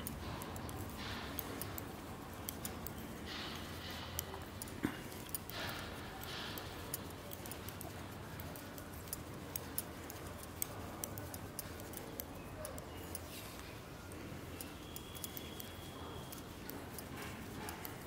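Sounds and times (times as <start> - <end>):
knitting needles clicking: 0.0 - 18.0.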